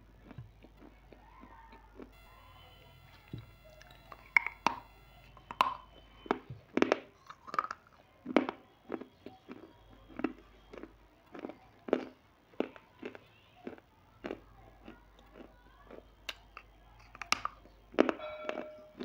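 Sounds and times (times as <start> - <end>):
chewing crunchy snack: 0.0 - 2.3, 3.0 - 19.0.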